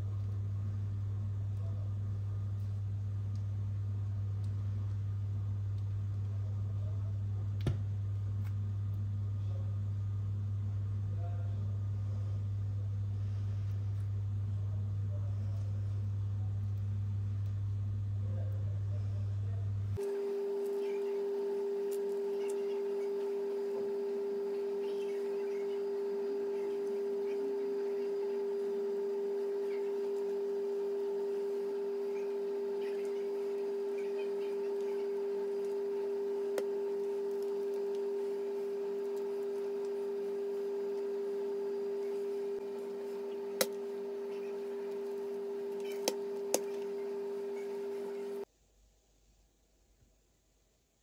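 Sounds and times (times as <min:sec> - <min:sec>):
steady one-pitch hum: 0:00.0 - 0:48.5.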